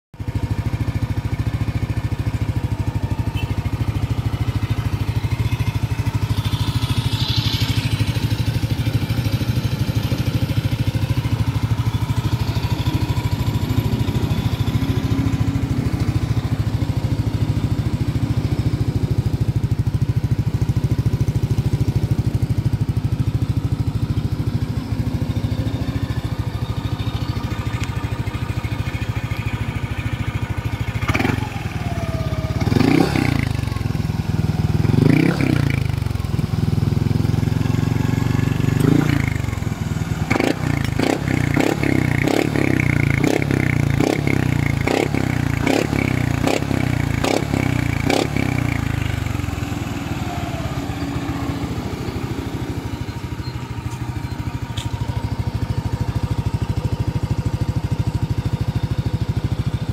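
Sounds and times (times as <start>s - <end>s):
scooter engine idling: 0.2s - 59.9s.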